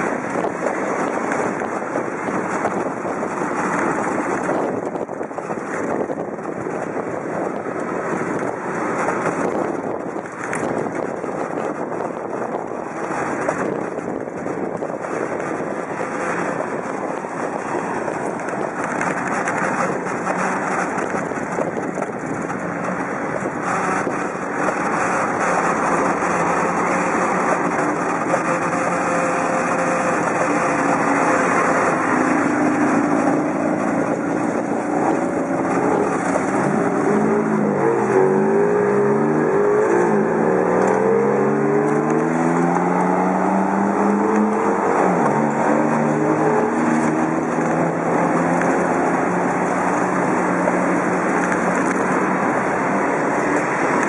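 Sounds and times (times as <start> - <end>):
city car traffic: 0.0 - 54.0
wind buffeting microphone: 0.0 - 54.0.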